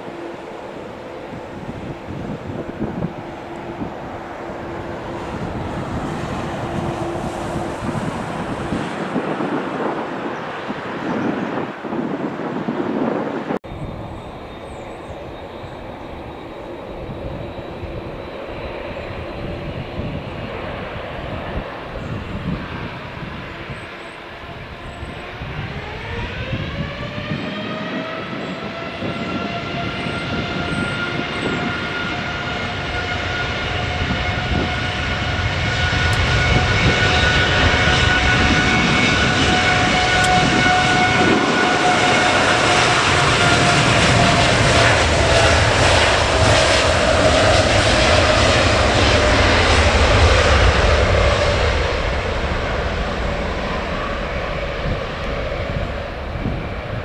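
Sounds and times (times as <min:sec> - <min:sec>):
jet engines spooling up: 0:00.0 - 0:57.0.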